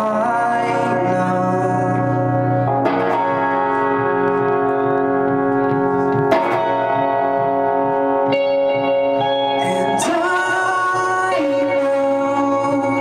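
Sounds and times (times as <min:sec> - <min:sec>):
electric guitar chords ringing: 0:00.0 - 0:13.0.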